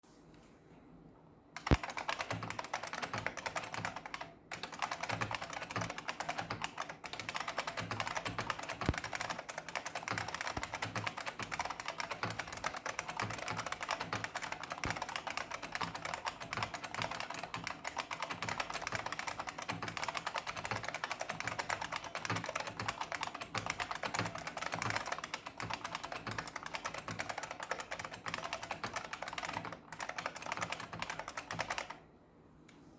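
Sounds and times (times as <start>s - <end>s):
mechanical keyboard clacking typing: 1.6s - 32.0s.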